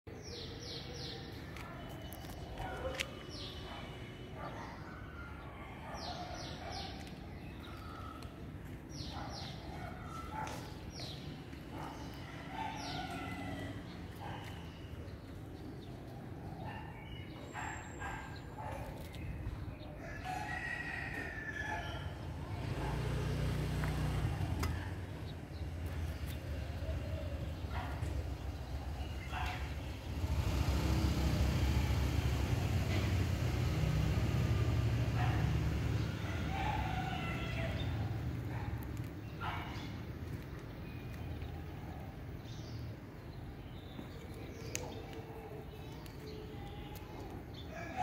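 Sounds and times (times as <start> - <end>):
small birds chirping: 0.1 - 19.8, 22.6 - 48.0
low city rumble: 0.1 - 48.0.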